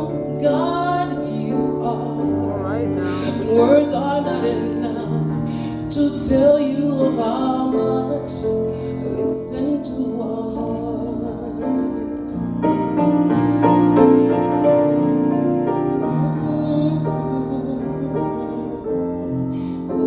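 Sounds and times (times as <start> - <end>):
piano and keyboard: 0.0 - 20.0.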